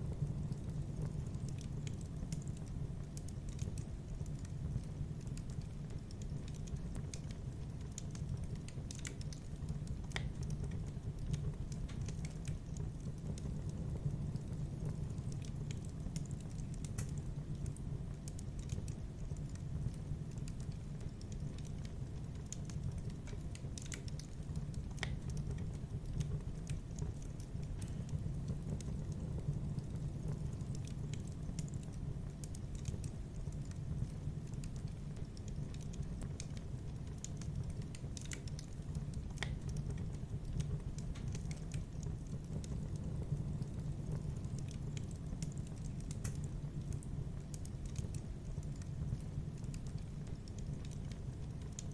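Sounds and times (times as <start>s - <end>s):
fire pops and snaps: 0.0s - 51.9s
wood fire crackling: 0.0s - 51.9s.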